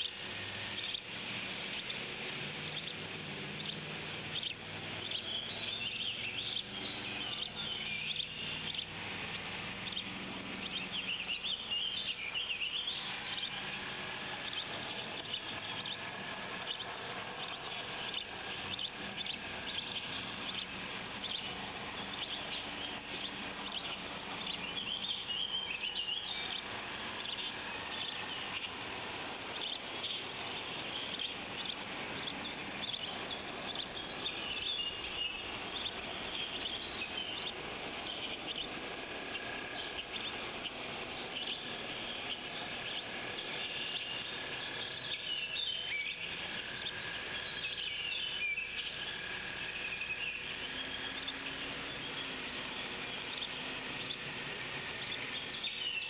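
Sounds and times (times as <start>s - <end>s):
birds chirping and singing: 0.0s - 56.0s
steady background hiss: 0.0s - 56.0s.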